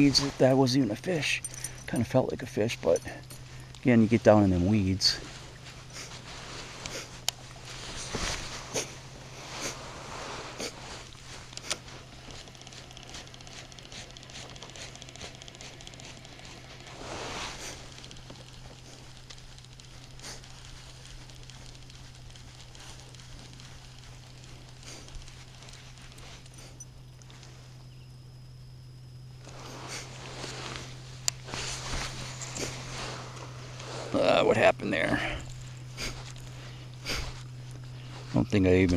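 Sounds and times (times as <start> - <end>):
light rustling and ticking: 0.0 - 28.2, 29.2 - 38.9
steady low hum: 0.0 - 38.9.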